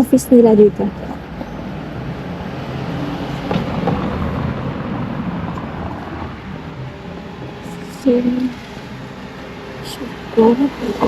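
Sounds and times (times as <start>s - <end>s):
passing vehicle rumble: 0.0s - 11.0s.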